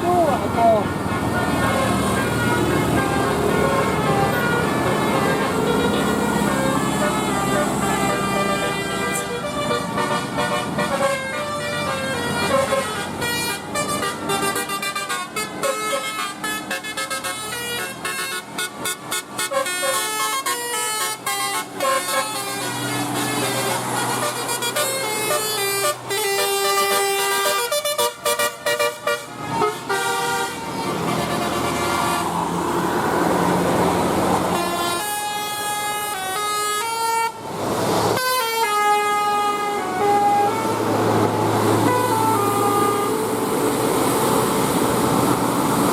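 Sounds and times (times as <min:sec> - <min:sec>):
multi-tone bus air horn melodies: 0:00.1 - 0:32.5, 0:34.3 - 0:45.3.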